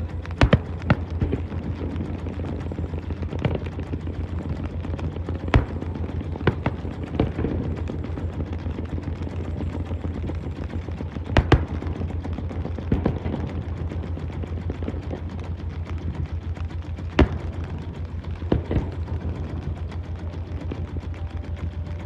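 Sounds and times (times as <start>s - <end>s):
boat engine hum: 0.0s - 22.0s
fireworks banging: 0.0s - 22.0s.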